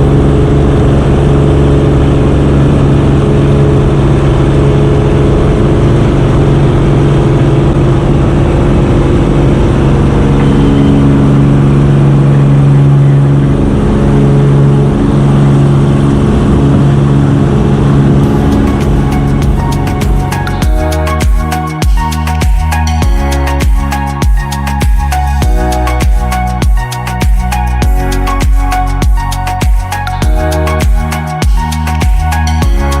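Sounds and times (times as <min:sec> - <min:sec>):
propeller aircraft engine drone: 0:00.0 - 0:33.0.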